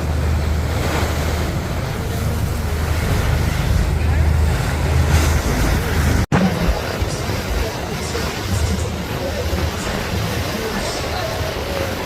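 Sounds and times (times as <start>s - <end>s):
boat engine low hum: 0.0s - 12.0s
water rushing past boat: 0.0s - 12.0s.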